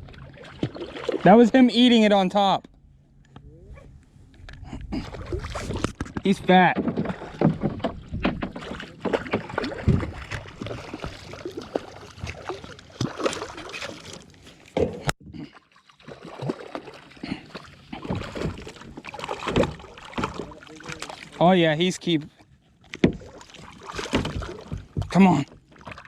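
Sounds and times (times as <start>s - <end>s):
water sloshing: 0.0s - 26.0s.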